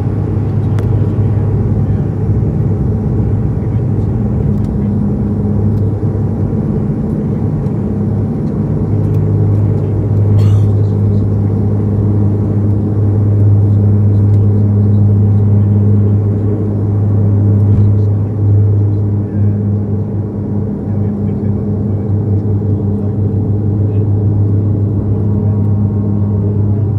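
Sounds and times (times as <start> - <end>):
turboprop cabin drone: 0.0 - 26.9.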